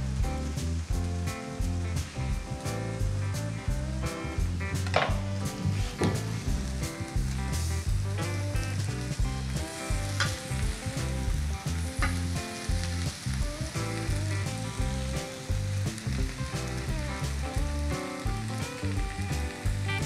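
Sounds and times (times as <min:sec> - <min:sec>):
cheese sizzling in a frying pan: 0:00.0 - 0:20.0
music with pulsing bass: 0:00.0 - 0:20.0.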